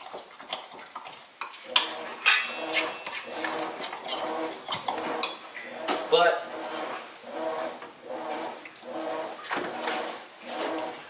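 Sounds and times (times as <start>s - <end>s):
utensil stirring batter in bowl: 0.0s - 11.0s.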